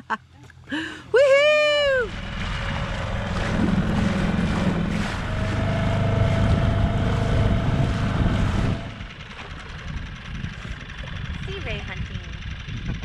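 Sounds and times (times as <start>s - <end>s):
outboard motor running: 0.2s - 13.0s
water rushing past hull: 1.1s - 11.6s
wind buffeting microphone: 1.6s - 13.0s.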